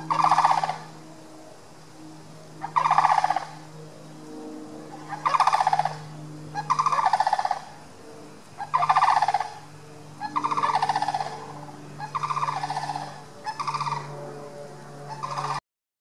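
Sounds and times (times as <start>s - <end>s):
cranes rattling calls: 0.0s - 1.0s, 2.5s - 15.6s
steady low hum: 0.0s - 15.6s.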